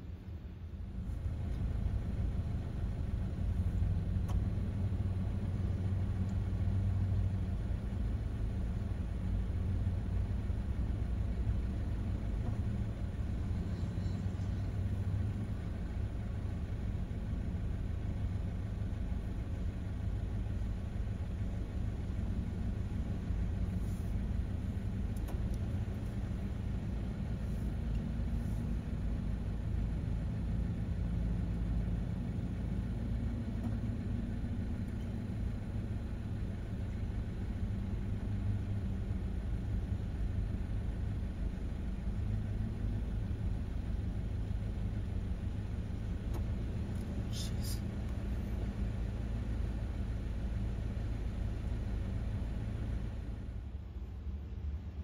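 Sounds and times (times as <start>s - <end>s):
higher engine hum: 0.0s - 55.0s
steady low rumble: 0.0s - 55.0s
vehicle engines running slowly: 0.0s - 55.0s.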